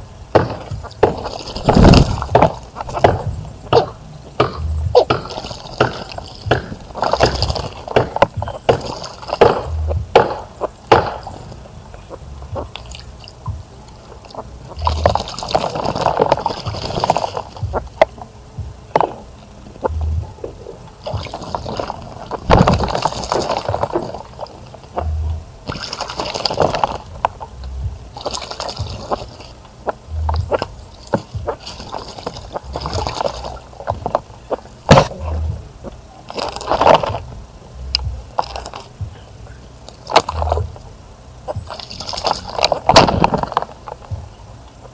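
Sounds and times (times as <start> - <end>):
birds splashing in water: 0.0 - 44.9
water drips: 0.0 - 44.9.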